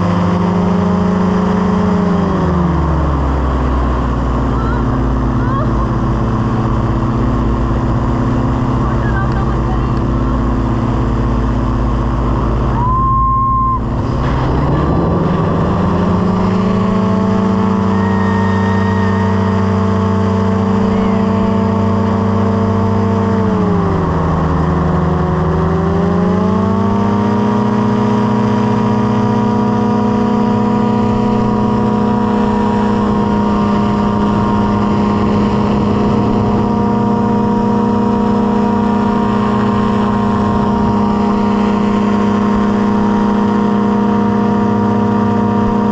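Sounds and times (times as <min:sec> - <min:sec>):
light aircraft engine and propeller: 0:00.0 - 0:45.9.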